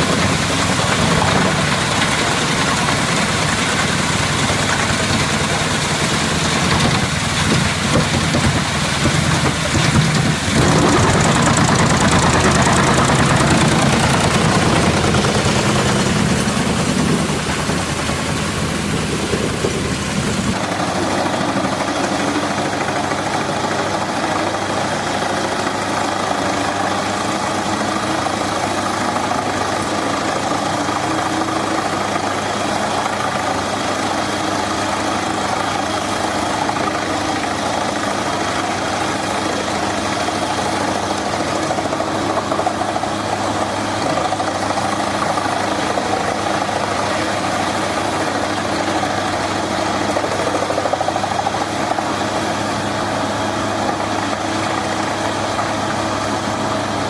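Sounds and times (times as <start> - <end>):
heavy machine engine droning: 0.0 - 57.0.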